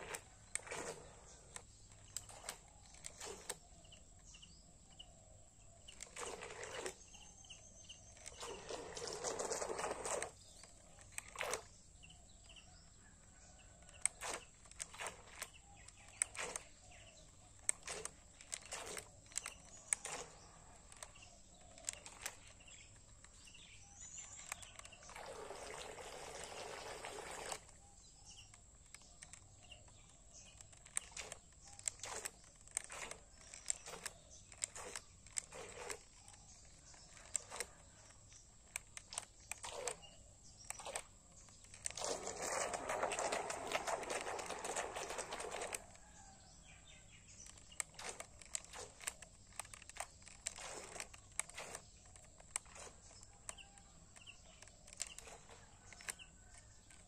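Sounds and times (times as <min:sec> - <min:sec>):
sharp clicks and crackles: 0:00.0 - 0:05.1, 0:05.8 - 0:57.0.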